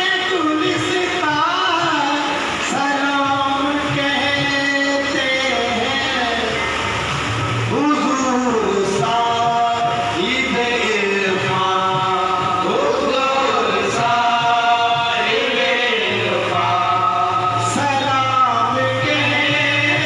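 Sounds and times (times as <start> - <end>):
men singing devotional music: 0.0 - 20.0.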